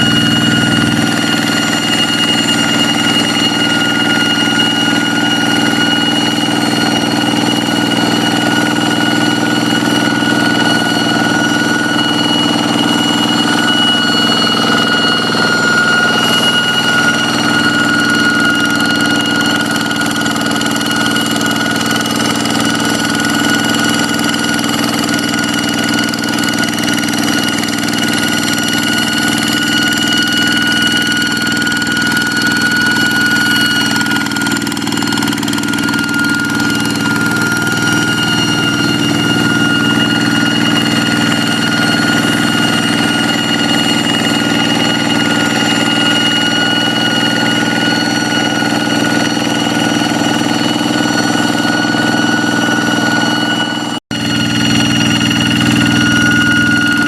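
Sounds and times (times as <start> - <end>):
diesel engine chugging: 0.0 - 57.0
high-pitched whine: 0.0 - 57.0.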